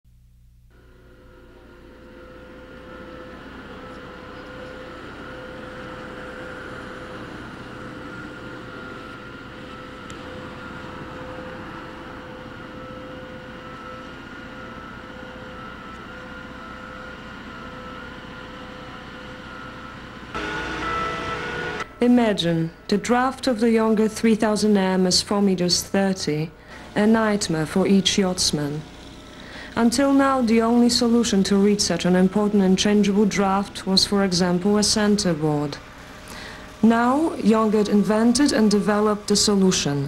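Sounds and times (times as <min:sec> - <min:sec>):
machinery drone with whine: 0:00.7 - 0:40.0.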